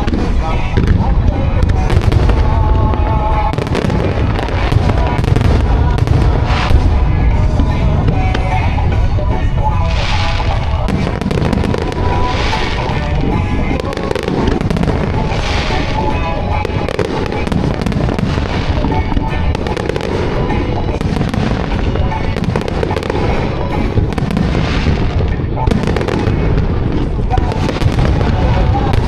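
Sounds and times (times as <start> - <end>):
fireworks bursting and crackling: 0.0 - 29.0
pop song playing loudly: 0.0 - 29.0.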